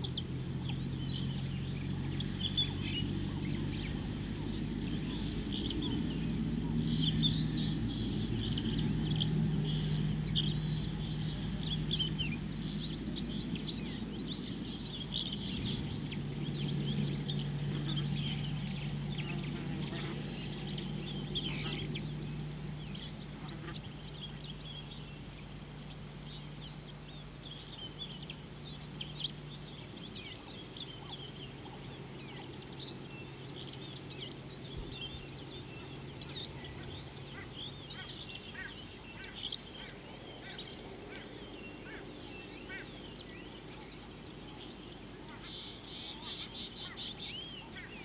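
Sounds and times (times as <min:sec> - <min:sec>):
birds chirping and whistling: 0:00.0 - 0:48.0
low steady hum: 0:00.0 - 0:48.0.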